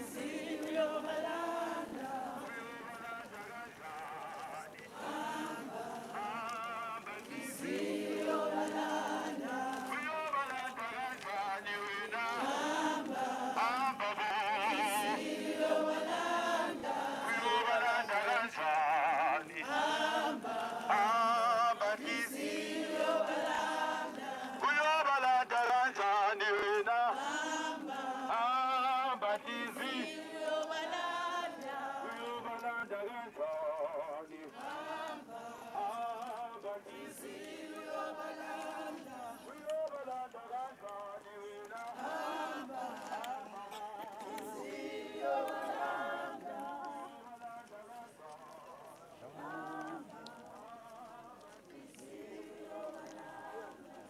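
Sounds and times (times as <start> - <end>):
women singing a hymn: 0.0 - 54.0.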